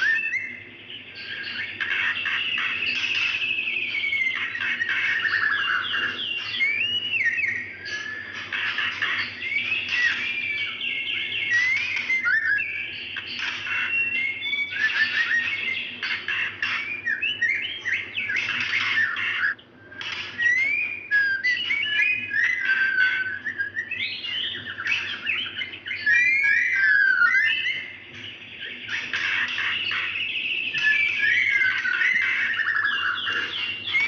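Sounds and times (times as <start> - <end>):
bird whistling and chirping: 0.0 - 34.0.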